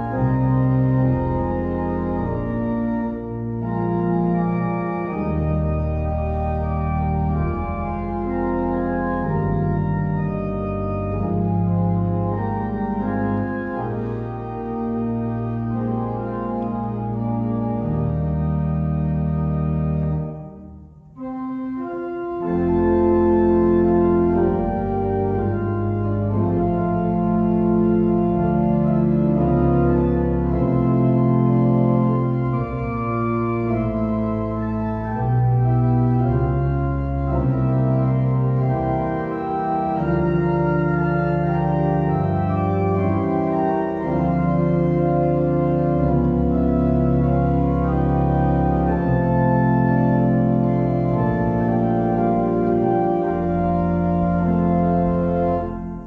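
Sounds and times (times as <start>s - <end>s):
church organ playing chords: 0.0s - 56.0s.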